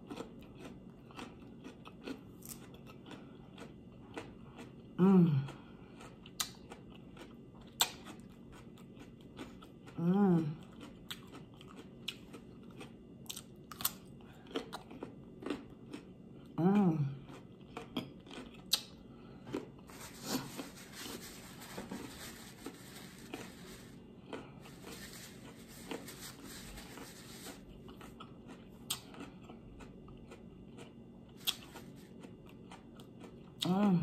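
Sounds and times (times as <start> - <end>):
chewing crunchy raw vegetables: 0.0 - 34.0.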